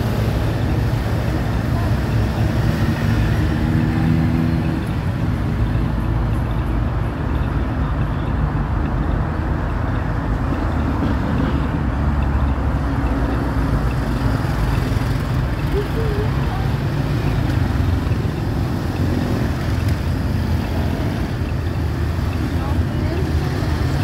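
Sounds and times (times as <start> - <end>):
motorcycle engines running: 0.0 - 24.0
street traffic: 0.0 - 24.0.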